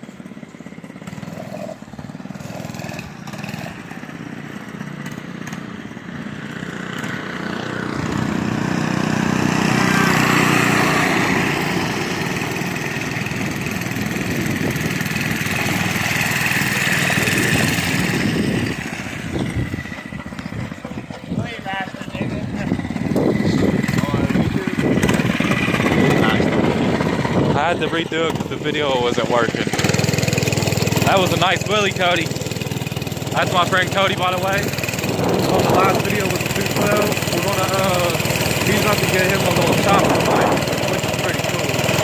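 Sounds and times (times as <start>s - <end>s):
mini bike engine running: 0.0s - 42.0s.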